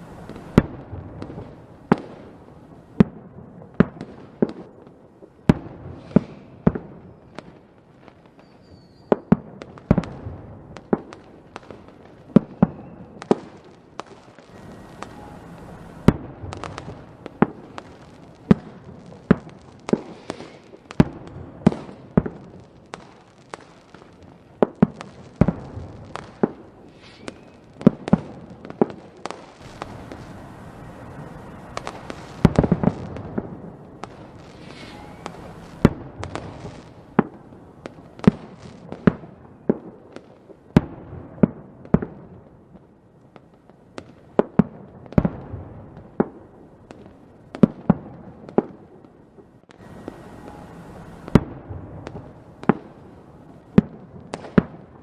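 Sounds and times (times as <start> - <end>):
fireworks bangs and cracks: 0.0 - 55.0
steady background hiss: 0.0 - 55.0.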